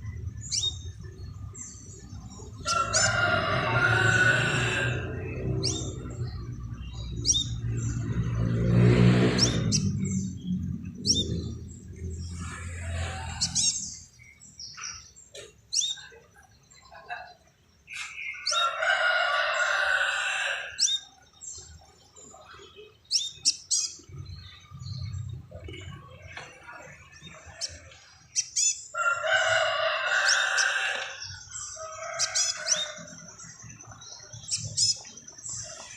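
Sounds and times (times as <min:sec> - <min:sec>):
bird chirping high-pitched: 0:00.0 - 0:08.5, 0:09.3 - 0:16.8, 0:20.7 - 0:29.0, 0:30.1 - 0:35.9.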